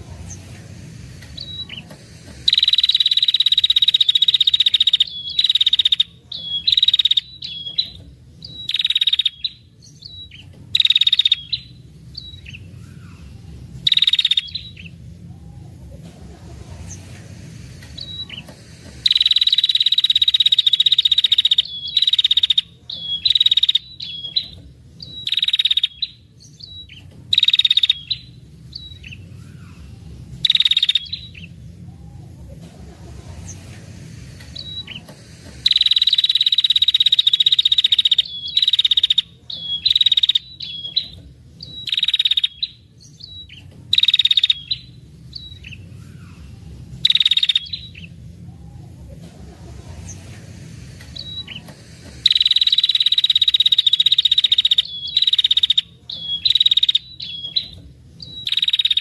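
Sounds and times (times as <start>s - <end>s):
bird buzzy trilling: 0.0s - 59.0s
faint low hum: 0.0s - 59.0s.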